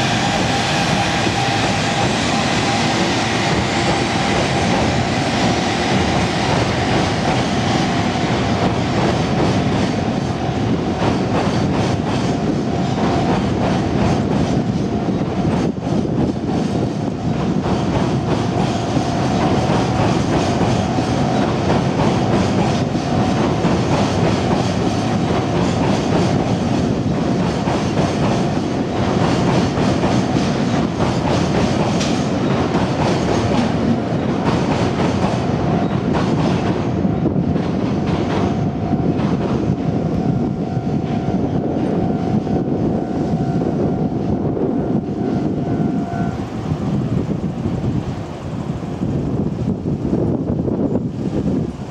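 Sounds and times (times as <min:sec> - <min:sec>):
train wheels clacking on rails: 0:00.0 - 0:46.5.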